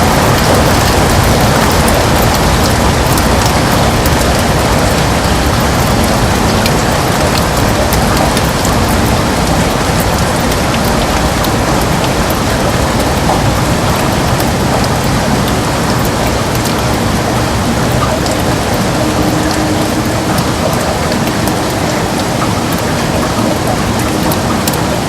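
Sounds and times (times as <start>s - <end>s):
heavy rain on a window: 0.0s - 25.0s.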